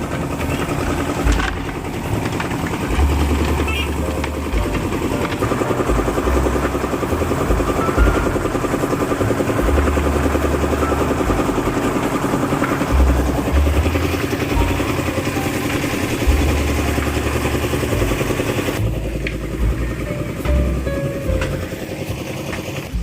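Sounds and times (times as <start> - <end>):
excavator diesel engine running: 0.0 - 23.0
low rumbles: 0.0 - 23.0.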